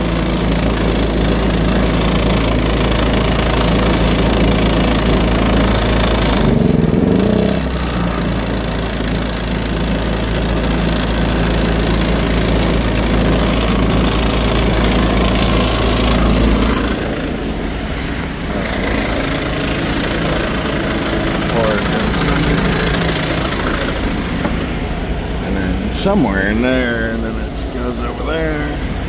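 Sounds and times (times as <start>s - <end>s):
generator engine running: 0.0s - 29.0s.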